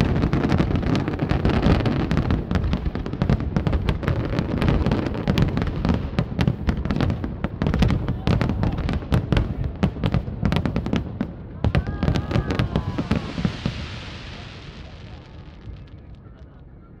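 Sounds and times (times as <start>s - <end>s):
fireworks bursting: 0.0s - 16.8s.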